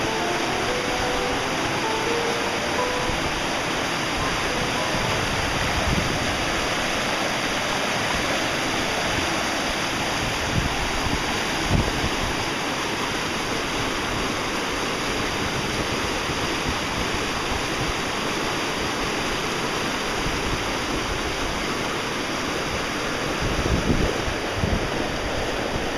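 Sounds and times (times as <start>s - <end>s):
river rapids rushing over boulders: 0.0s - 25.9s.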